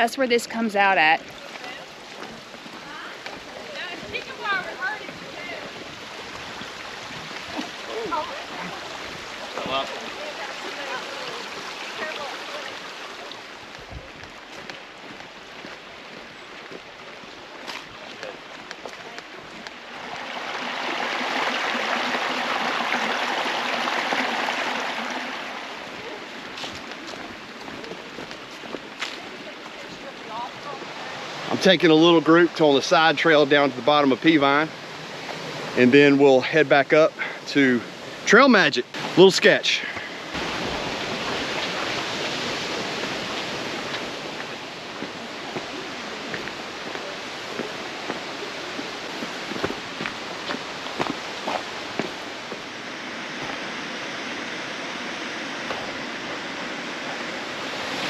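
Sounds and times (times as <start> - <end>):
creek water rushing over rocks: 0.0 - 58.0.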